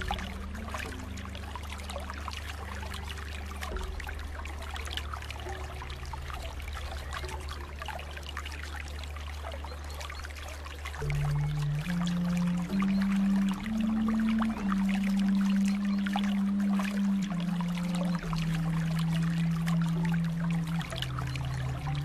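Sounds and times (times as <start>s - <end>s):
low hum: 0.0s - 22.0s
water trickling and bubbling: 0.0s - 22.0s.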